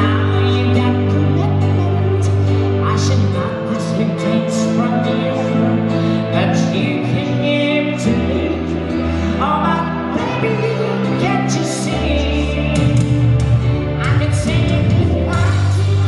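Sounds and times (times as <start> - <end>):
instrumental backing music: 0.0 - 16.0
person singing into microphone: 0.0 - 16.0.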